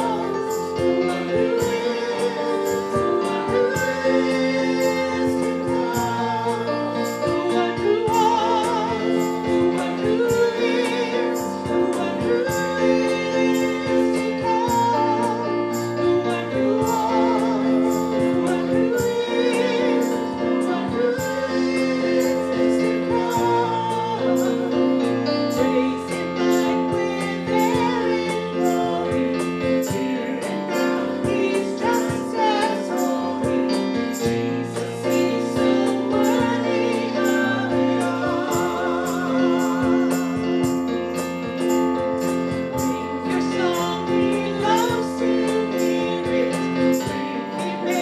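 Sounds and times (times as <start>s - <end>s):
woman singing: 0.0s - 40.8s, 42.8s - 48.0s
keyboard accompaniment: 0.0s - 48.0s.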